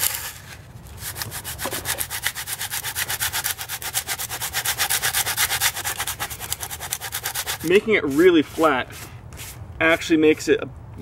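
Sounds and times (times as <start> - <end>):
metal scraper rasping on cement: 0.0 - 10.5.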